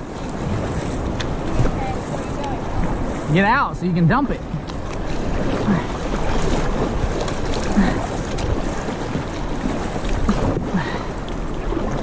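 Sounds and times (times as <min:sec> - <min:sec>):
paddle splashing in water: 0:00.0 - 0:12.0
wind on microphone: 0:00.0 - 0:12.0.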